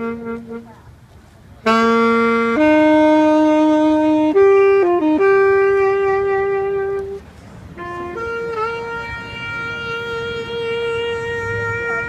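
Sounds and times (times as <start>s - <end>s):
solo saxophone melody: 0.0s - 12.0s.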